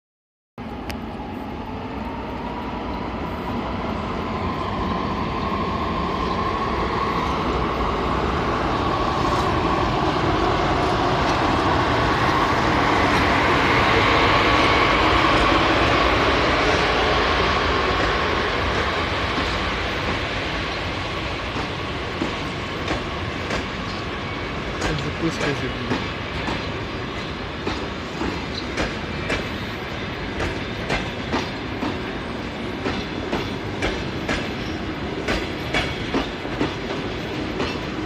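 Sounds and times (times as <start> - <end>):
locomotive whine: 0.6 - 38.0
train running gear rumble: 4.8 - 38.0.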